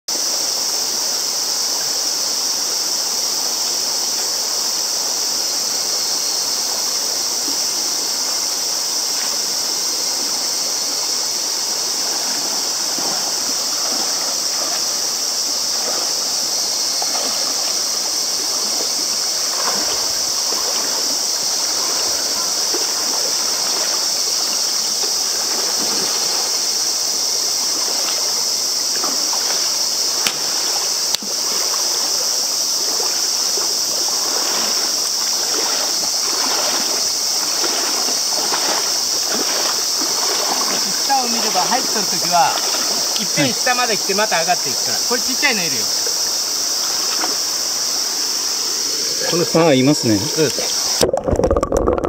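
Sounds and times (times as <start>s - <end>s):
river rushing over rocks: 0.2s - 49.6s
splashing from wading: 10.1s - 52.0s.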